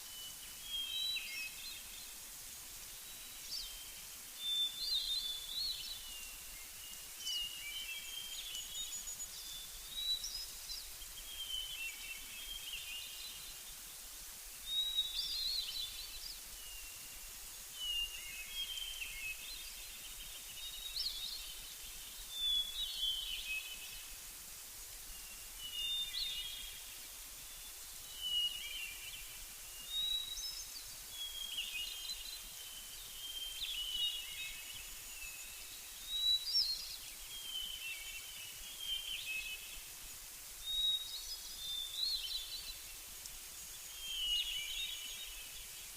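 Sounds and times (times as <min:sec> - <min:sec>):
faint steady hiss: 0:00.0 - 0:45.9.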